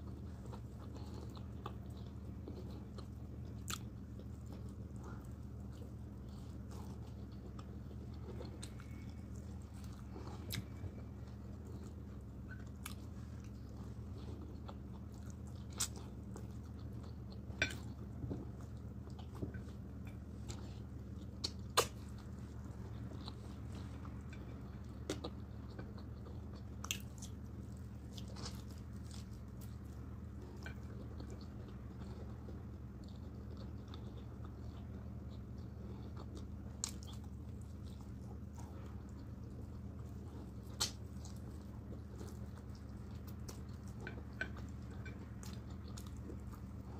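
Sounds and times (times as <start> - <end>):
person chewing and smacking: 0.0 - 46.9
steady low hum: 0.0 - 46.9.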